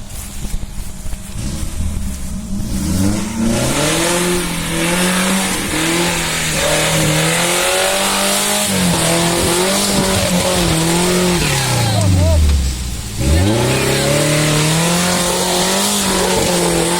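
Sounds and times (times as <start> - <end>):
engine revving hard: 2.5 - 16.9.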